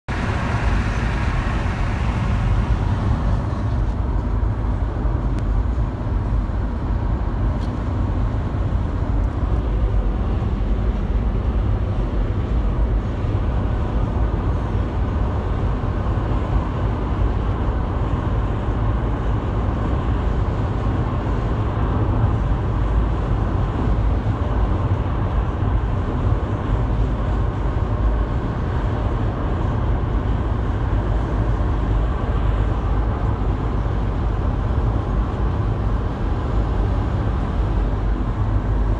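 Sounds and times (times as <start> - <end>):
traffic engine drone: 0.0 - 38.9.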